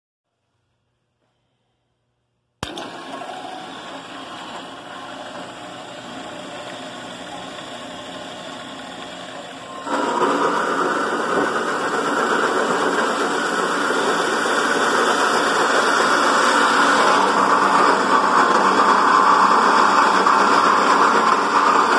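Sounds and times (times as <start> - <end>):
band saw cutting metal: 3.4 - 21.9.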